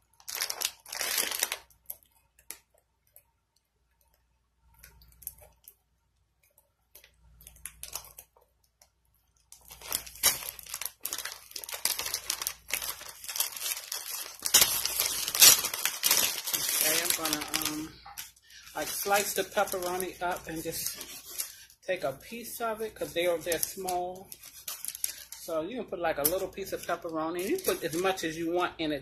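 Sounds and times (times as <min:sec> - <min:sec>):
plastic packet crinkling and tearing: 0:00.0 - 0:02.7, 0:06.9 - 0:28.6.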